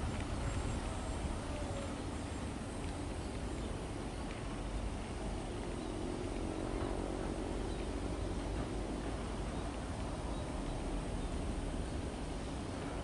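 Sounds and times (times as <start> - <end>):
faint hum: 0.0 - 13.0
train rumbling on track: 0.0 - 13.0.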